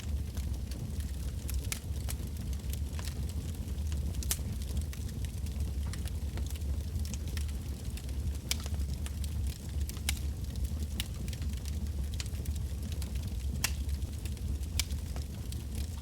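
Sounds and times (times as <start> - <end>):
bonfire flames rumbling: 0.0 - 16.0
burning logs crackling and popping: 0.0 - 16.0.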